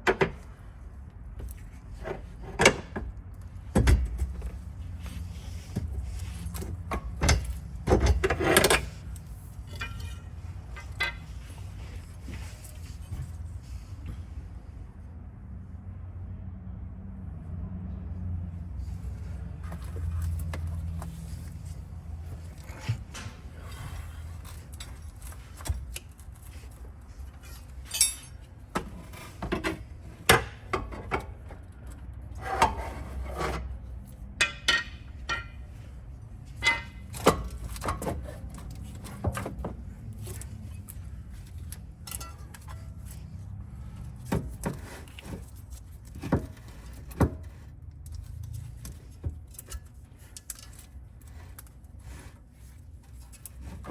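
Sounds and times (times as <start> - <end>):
tools and metal parts clinking: 1.4 - 13.4, 19.6 - 53.9.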